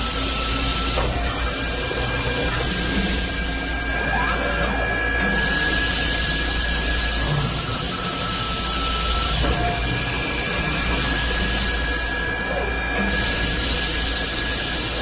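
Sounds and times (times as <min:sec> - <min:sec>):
drilling machine hiss and whine: 0:00.0 - 0:15.0.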